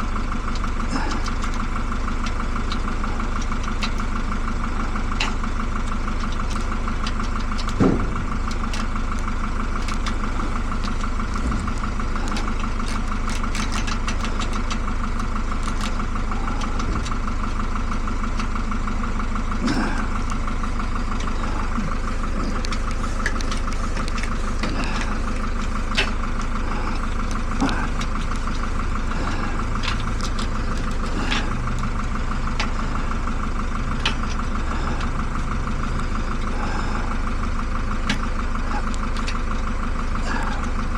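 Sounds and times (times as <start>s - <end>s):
machine hum with low rumble: 0.0s - 40.9s.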